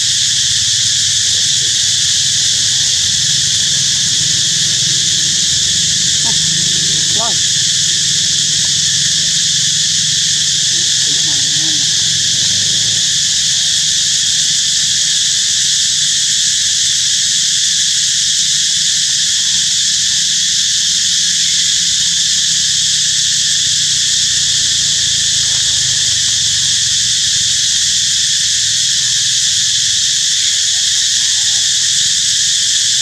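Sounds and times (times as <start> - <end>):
insects chorus shrill drone: 0.0 - 33.0.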